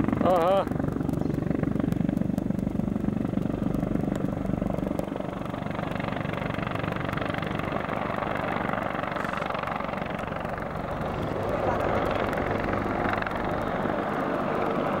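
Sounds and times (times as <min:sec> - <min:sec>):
helicopter rotor beating: 0:00.0 - 0:15.0
helicopter turbine noise: 0:00.0 - 0:15.0.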